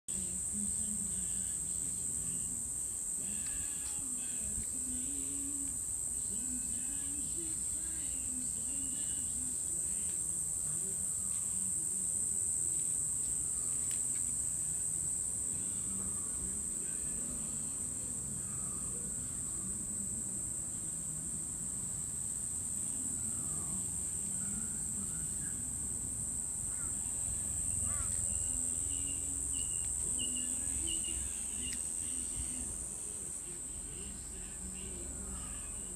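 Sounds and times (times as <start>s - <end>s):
insect chorus drone: 0.1s - 35.9s.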